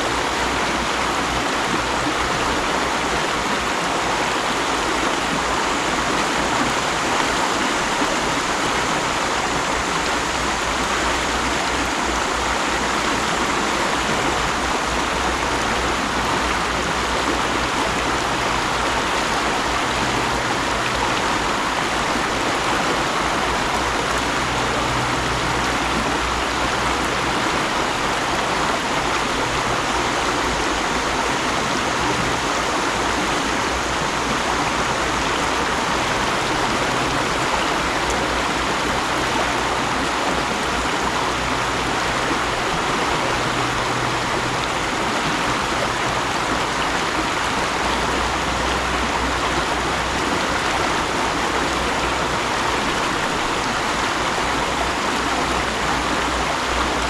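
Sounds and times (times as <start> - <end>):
stream water rushing and babbling: 0.0 - 57.0.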